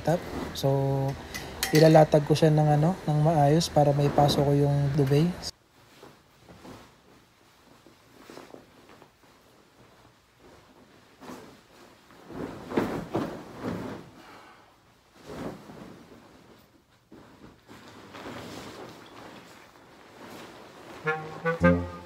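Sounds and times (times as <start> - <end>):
fabric rustling and swishing: 0.0 - 1.1, 2.2 - 22.0.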